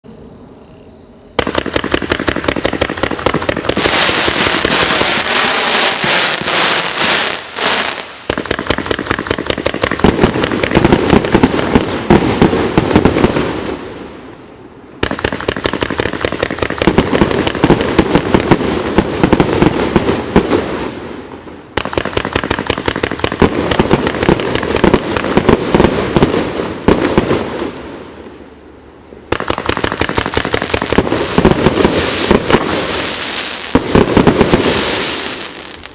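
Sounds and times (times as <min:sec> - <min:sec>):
firework barrage of shots: 0:01.4 - 0:14.1, 0:15.0 - 0:27.9, 0:29.3 - 0:35.9.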